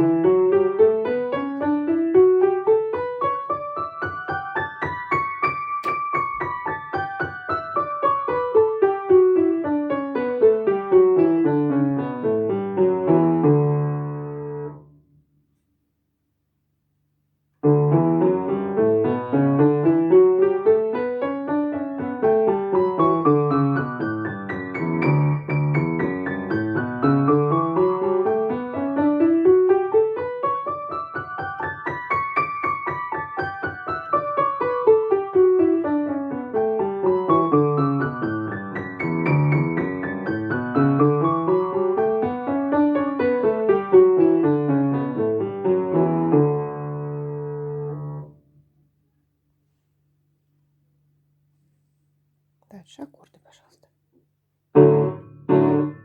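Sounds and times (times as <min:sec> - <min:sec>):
piano scales: 0:00.0 - 0:14.9, 0:17.6 - 0:48.5, 0:54.7 - 0:56.0.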